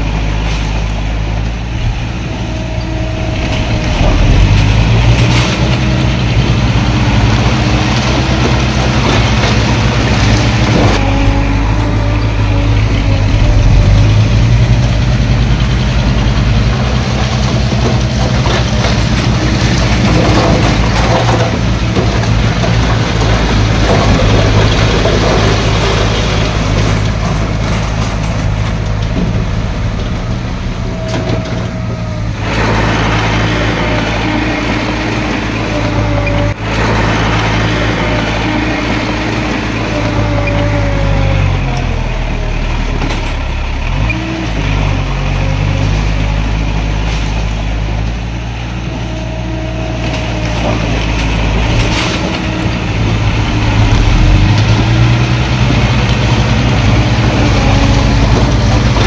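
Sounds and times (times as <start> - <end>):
diesel engine working under load: 0.0 - 59.0.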